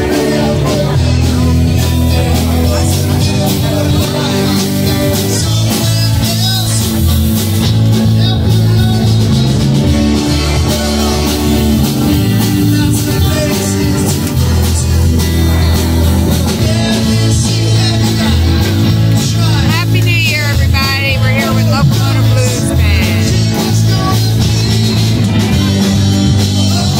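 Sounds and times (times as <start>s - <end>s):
bass line: 0.0s - 26.9s
live blues band playing: 0.0s - 26.9s.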